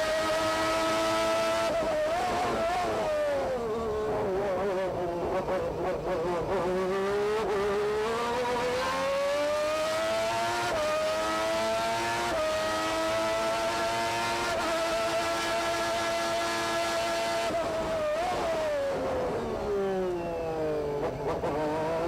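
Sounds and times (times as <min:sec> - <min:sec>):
racing car engine at full throttle: 0:00.0 - 0:22.0.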